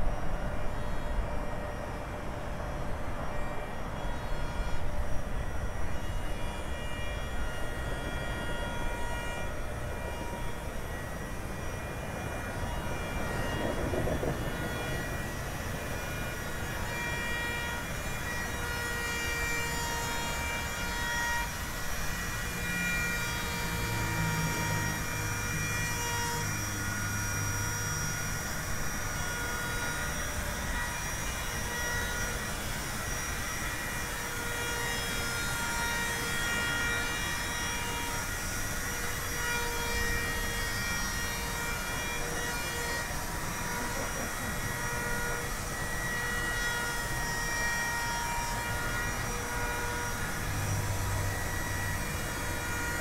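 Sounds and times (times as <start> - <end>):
electric wood router whining: 0.0 - 53.0.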